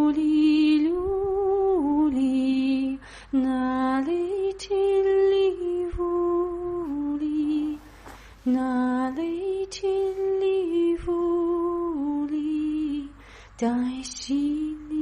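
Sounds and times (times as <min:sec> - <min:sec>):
woman singing a lullaby: 0:00.0 - 0:15.0.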